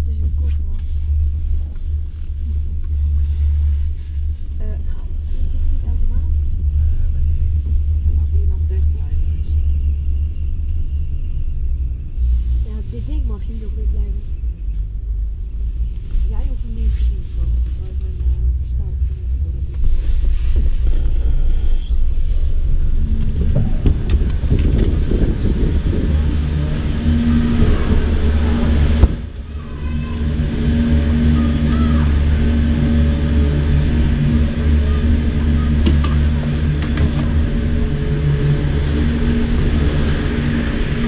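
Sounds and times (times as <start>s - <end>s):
chairlift machinery humming: 0.0s - 41.0s
rumbling noise: 0.0s - 41.0s.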